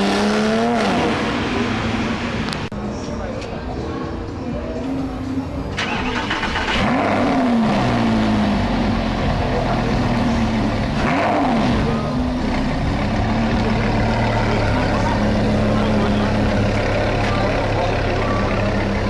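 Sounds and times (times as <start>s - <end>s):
vehicle engine revving and idling: 0.0s - 19.0s.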